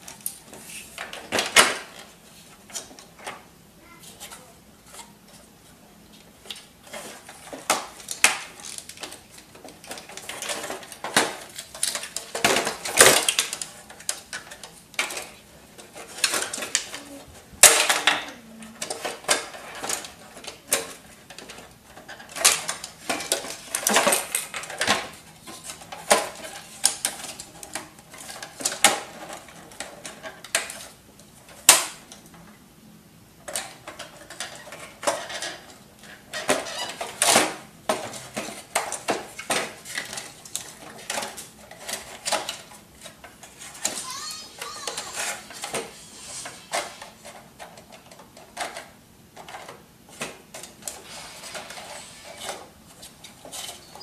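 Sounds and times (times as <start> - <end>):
plastic printer parts clattering: 6.4 - 32.4, 33.4 - 45.9, 46.7 - 54.0.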